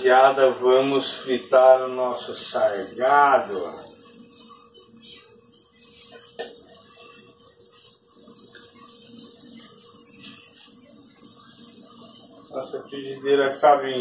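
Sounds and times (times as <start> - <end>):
hot oil sizzling in a frying pan: 2.2 - 14.0.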